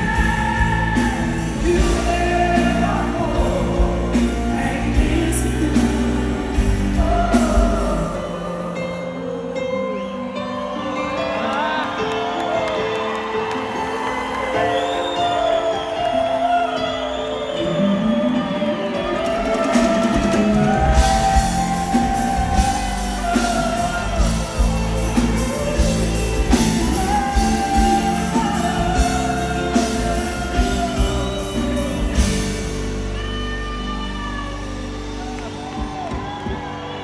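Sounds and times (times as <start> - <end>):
live band playing pop ballad: 0.0 - 37.0.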